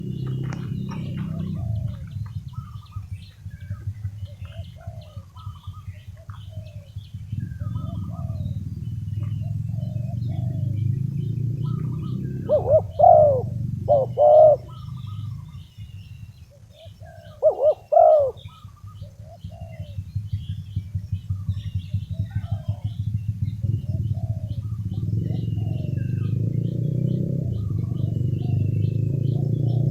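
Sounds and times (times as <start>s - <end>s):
dove cooing: 0.0s - 29.9s
small birds chirping: 0.0s - 29.9s
steady low rumble: 0.0s - 29.9s.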